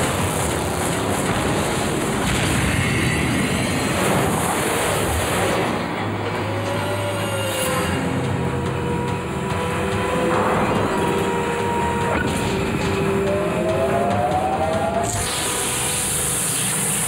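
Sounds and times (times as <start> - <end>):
music: 0.0 - 17.0
spacecraft engines and explosions: 0.0 - 17.0
slow wavering whine: 3.1 - 17.0.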